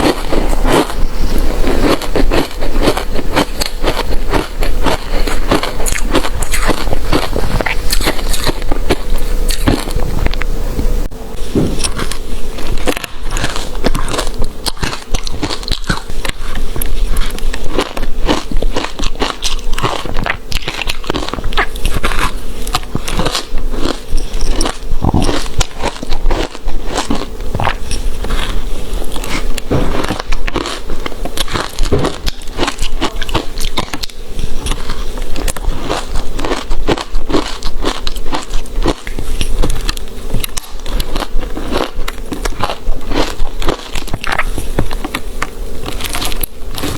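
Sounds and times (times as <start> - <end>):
chewing ice crunches: 0.0 - 10.4, 11.8 - 46.9.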